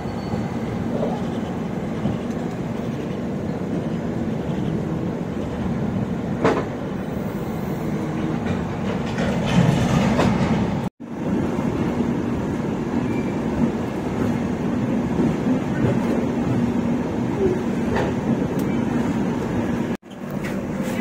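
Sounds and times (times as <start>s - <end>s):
train rumble and hum: 0.0s - 21.0s.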